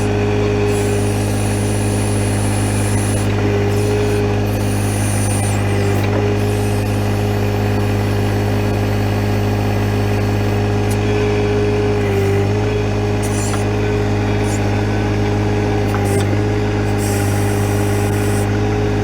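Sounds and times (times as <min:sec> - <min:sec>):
diesel tractor engine running: 0:00.0 - 0:19.0
steady hydraulic whine: 0:00.0 - 0:19.0.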